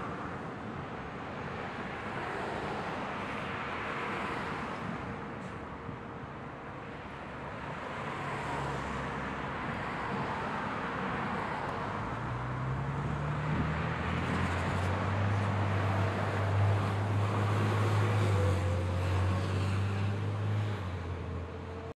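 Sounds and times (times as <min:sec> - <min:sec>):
cars passing on road: 0:00.0 - 0:21.9.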